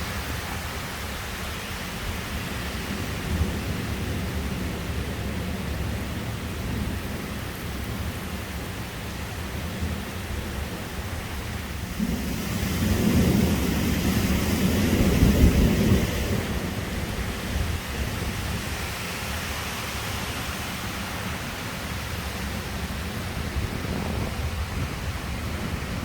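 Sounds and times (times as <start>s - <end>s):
heavy rain hissing: 0.0s - 26.0s
thunder rumble: 2.4s - 20.2s, 20.9s - 26.0s.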